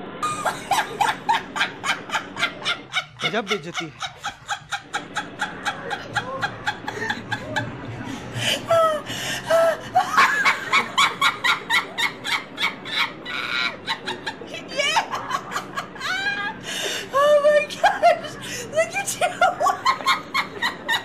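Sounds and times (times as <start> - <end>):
people laughing: 0.2 - 21.0.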